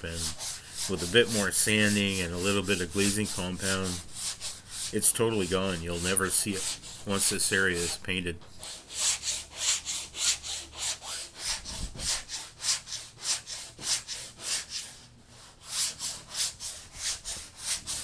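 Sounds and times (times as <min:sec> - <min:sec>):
sanding block rasping: 0:00.0 - 0:18.0.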